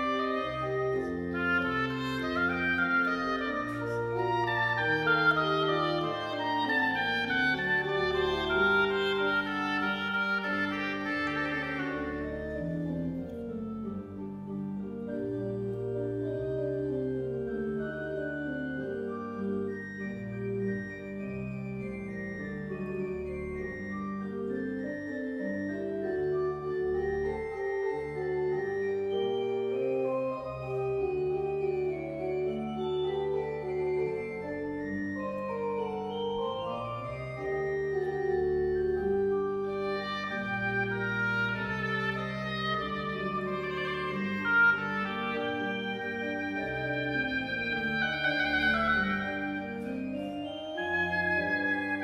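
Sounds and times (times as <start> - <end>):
church organ playing: 0.0 - 52.0.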